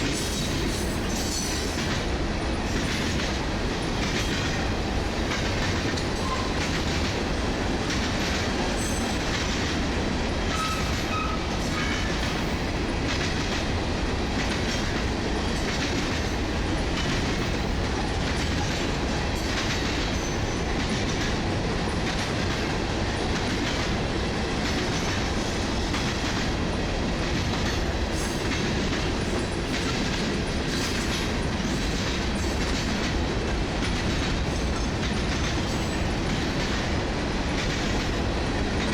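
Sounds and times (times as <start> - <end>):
freight train cars rolling past: 0.0 - 38.9.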